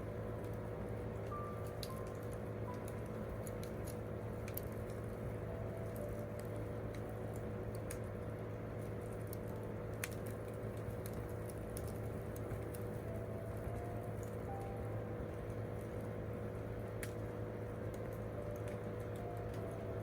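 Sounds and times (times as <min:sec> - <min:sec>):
low rumble of fire: 0:00.0 - 0:20.0
campfire crackling and popping: 0:00.1 - 0:20.0.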